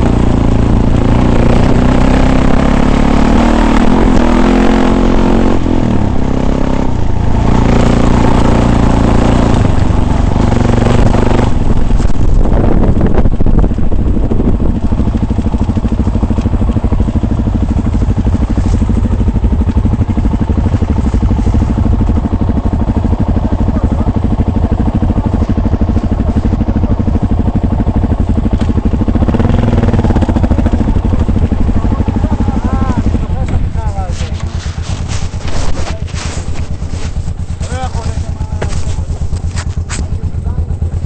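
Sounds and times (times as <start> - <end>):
vehicle engine droning: 0.0 - 41.0.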